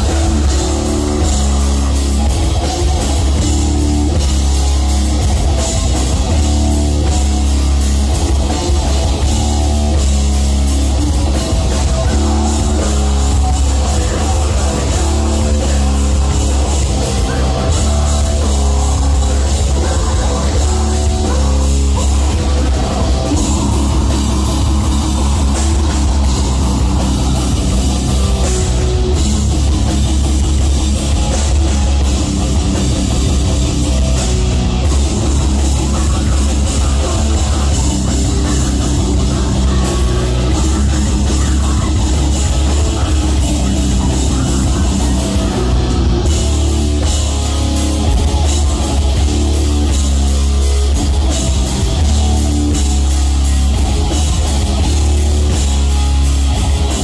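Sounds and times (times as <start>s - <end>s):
distorted guitars: 0.0s - 57.0s
drum kit: 0.0s - 57.0s
heavy bass: 0.0s - 57.0s.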